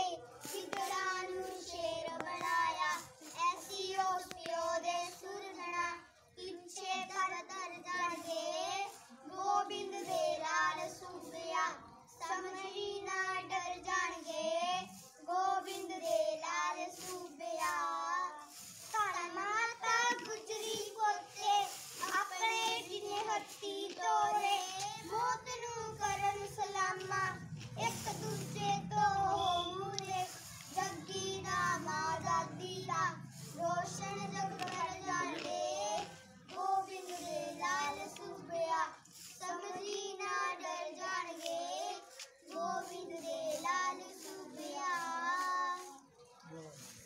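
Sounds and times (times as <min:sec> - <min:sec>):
boys singing a hymn unaccompanied: 0:00.0 - 0:47.0.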